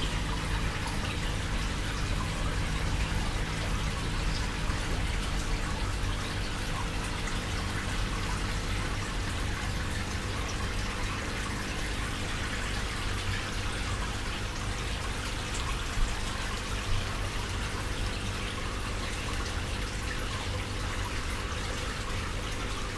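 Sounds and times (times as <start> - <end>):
water trickling in fish tank: 0.0 - 22.9.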